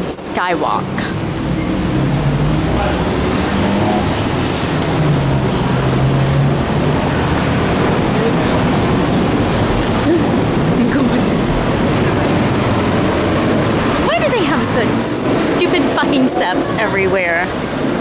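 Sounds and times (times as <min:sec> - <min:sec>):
city road traffic: 0:00.0 - 0:18.0.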